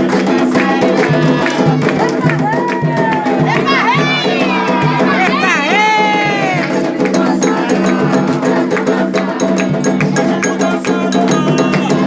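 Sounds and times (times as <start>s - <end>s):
rapid drum strikes: 0.0s - 12.0s.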